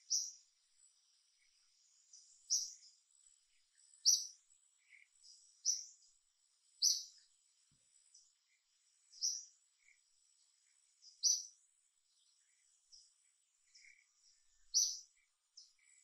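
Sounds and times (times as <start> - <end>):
bird chirping: 0.0 - 16.0
faint high-pitched hum: 0.0 - 16.0.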